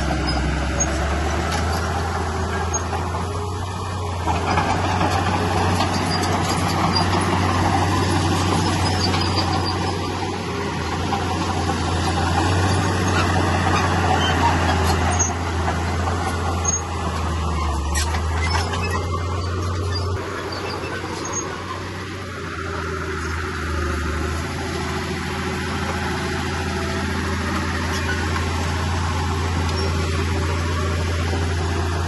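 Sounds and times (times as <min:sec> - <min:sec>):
heavy diesel machinery engine drone: 0:00.0 - 0:32.0.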